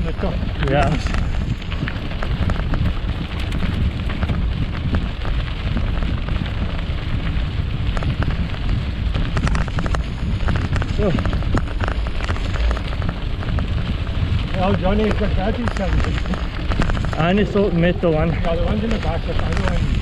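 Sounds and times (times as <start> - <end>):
crackles and clicks: 0.0 - 20.0
wind buffeting microphone: 0.0 - 20.0.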